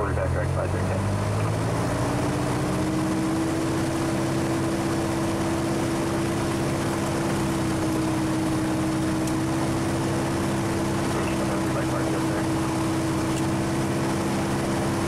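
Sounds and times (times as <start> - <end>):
aircraft engine and propeller: 0.0 - 15.0.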